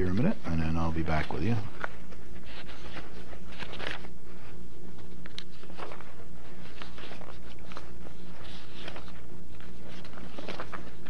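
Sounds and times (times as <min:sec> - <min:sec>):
low electrical hum: 0:00.0 - 0:11.0
paper rustling and crinkling: 0:00.0 - 0:11.0.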